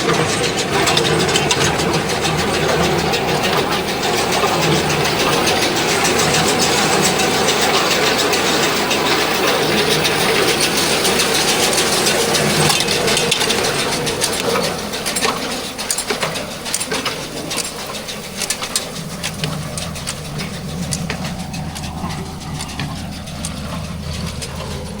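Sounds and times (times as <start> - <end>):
sharp clicks and rattles: 0.0 - 25.0
tractor engine running: 0.0 - 25.0.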